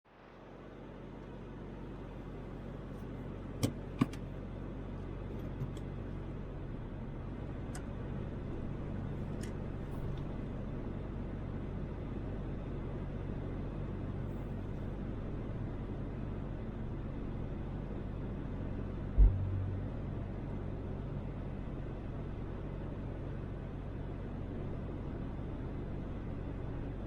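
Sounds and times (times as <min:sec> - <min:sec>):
car road and engine noise: 0:00.1 - 0:27.0.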